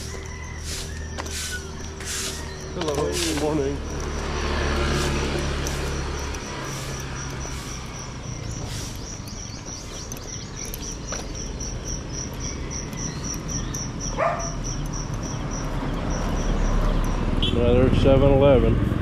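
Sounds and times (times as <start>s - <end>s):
insect chirping: 0.0s - 17.5s.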